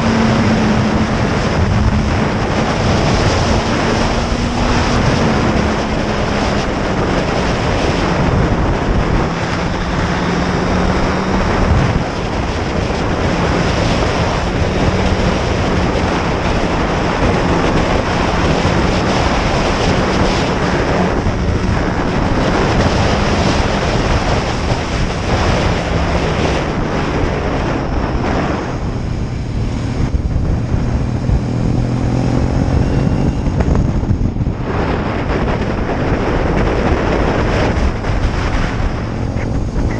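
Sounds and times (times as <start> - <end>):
engine hum: 0.0 - 39.9
wind buffeting microphone: 0.0 - 39.9.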